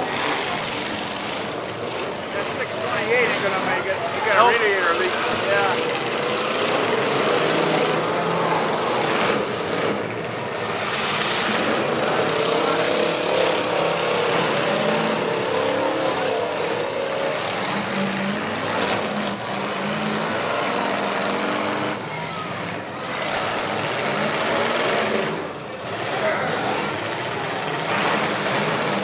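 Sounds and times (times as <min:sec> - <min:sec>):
car engines revving: 0:00.0 - 0:29.0
steady background noise: 0:00.0 - 0:29.0.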